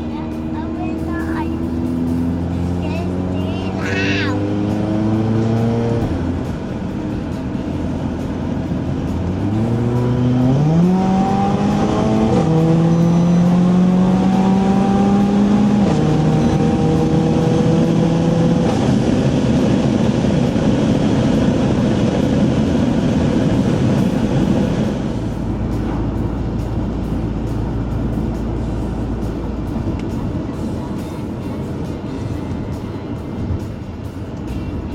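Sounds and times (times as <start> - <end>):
car engine accelerating: 0.0 - 34.9
road and tyre noise: 0.0 - 34.9.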